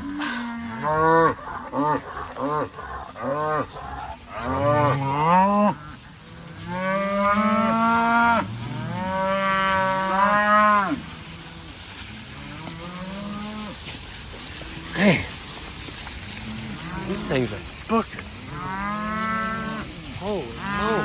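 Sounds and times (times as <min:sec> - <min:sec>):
cows mooing: 0:00.0 - 0:15.4, 0:16.3 - 0:21.0.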